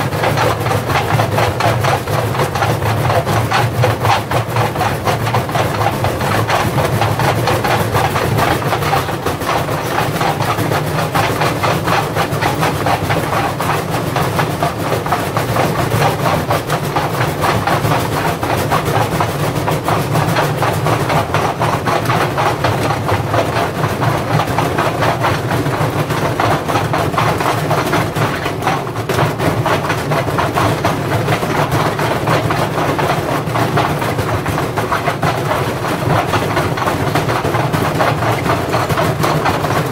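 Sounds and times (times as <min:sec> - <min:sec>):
washing machine hum: 0:00.0 - 0:39.9.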